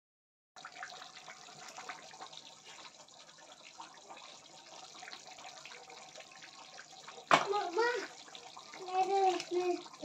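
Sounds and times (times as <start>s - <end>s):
gravy simmering in a pan: 0.6s - 10.0s.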